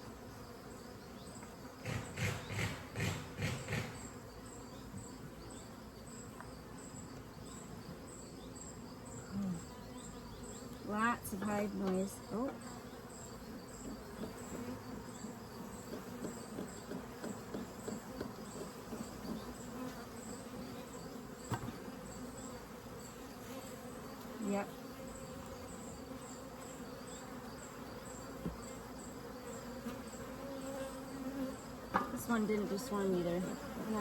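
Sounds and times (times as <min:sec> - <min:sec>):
honeybee colony buzzing: 0:00.0 - 0:34.0.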